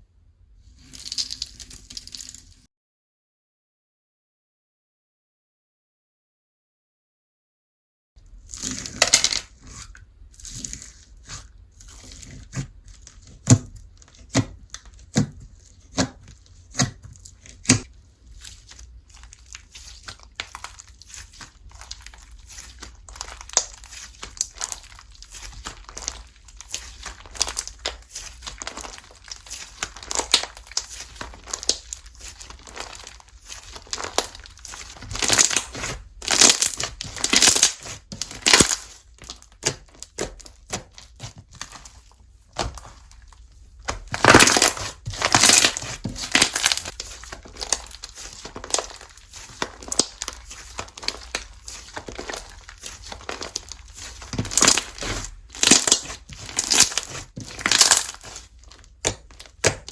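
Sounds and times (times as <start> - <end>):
slime squished by hand: 8.5 - 59.9.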